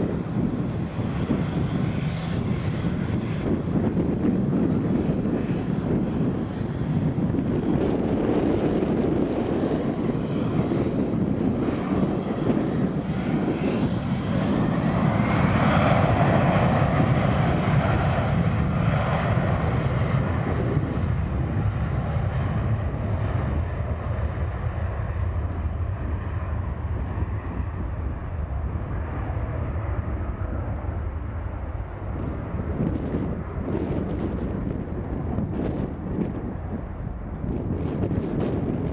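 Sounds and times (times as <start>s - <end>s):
jet passing: 0.0s - 38.9s.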